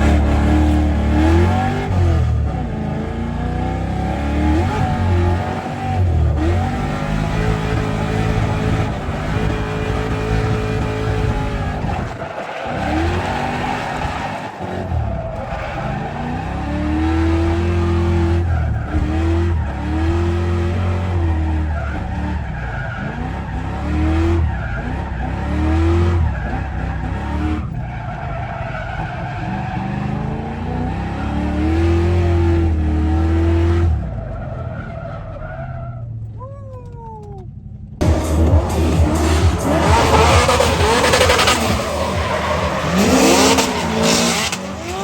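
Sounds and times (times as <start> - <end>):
car engine revving and shifting: 0.0 - 36.4, 38.0 - 45.0.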